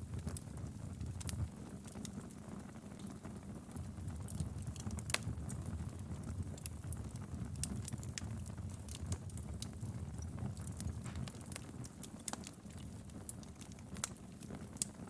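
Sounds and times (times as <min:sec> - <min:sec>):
flames rumbling: 0:00.0 - 0:15.0
wood fire crackling: 0:00.0 - 0:15.0.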